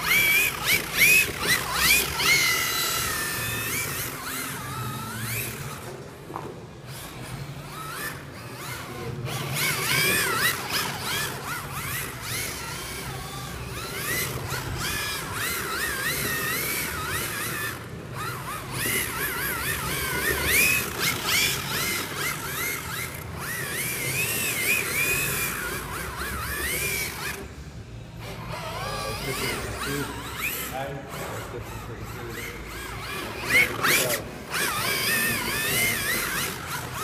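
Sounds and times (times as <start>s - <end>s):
rc car electric motor whining: 0.0s - 37.0s.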